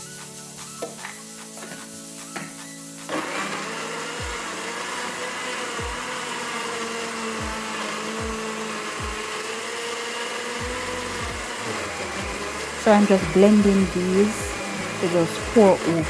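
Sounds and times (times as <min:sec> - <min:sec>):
blender motor whine: 0:00.0 - 0:16.0.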